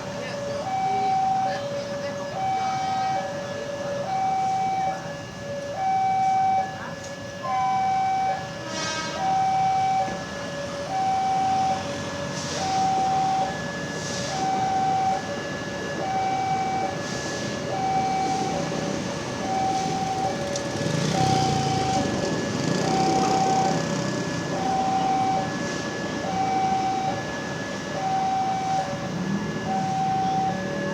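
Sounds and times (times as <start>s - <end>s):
level-crossing two-tone alarm: 0.0s - 30.9s.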